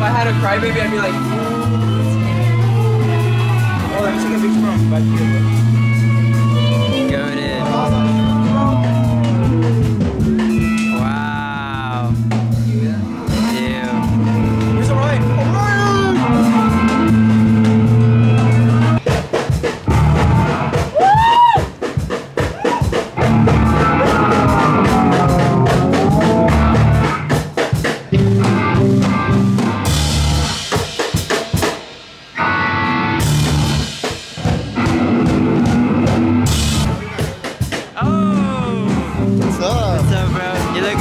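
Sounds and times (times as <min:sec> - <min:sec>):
rock music with drum kit: 0:00.0 - 0:41.0.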